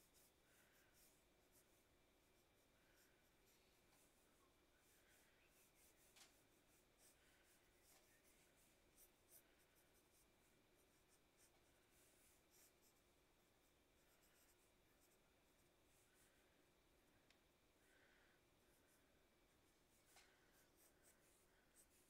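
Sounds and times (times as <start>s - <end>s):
pencil scratching on paper: 0.0s - 13.1s, 14.0s - 16.4s, 19.6s - 22.0s.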